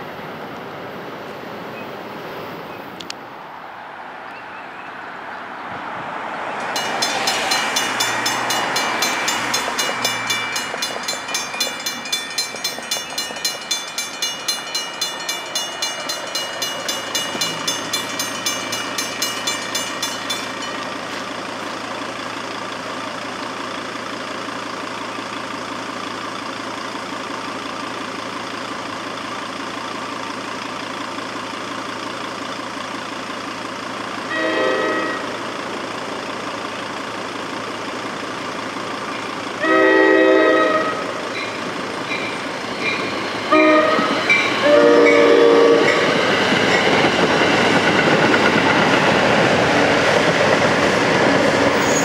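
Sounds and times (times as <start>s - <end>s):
railroad crossing bell ringing: 6.5s - 51.0s, 51.6s - 52.0s.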